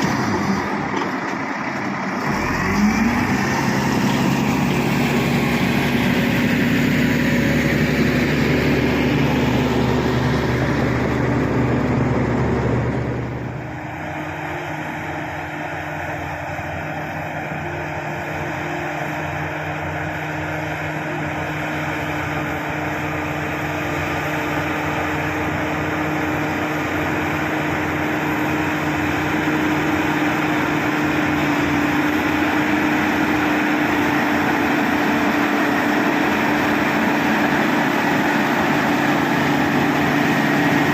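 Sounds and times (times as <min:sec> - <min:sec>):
bulldozer diesel engine: 0:00.0 - 0:40.9.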